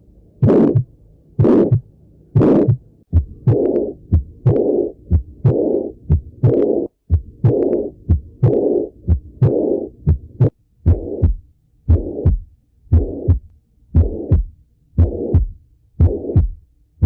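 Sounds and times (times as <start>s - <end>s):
heartbeat through stethoscope: 0.4s - 1.8s, 2.4s - 16.6s
harsh heart murmur: 0.4s - 16.6s.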